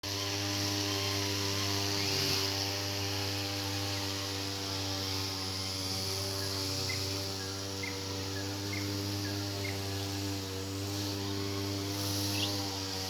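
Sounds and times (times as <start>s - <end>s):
two-stroke brush cutter running: 0.0s - 13.0s.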